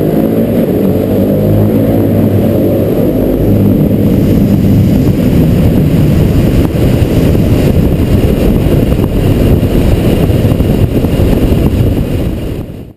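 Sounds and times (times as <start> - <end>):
loud motorcycle engine in tunnel: 0.0 - 12.9.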